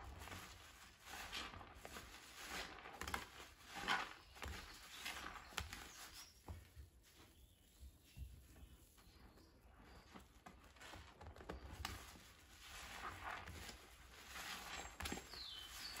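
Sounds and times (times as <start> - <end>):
sponge squelching in foam: 0.0 - 7.2, 9.2 - 16.0.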